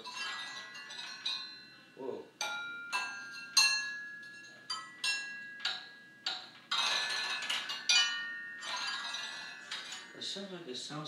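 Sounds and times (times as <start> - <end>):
metal parts struck ringing: 0.0 - 10.2.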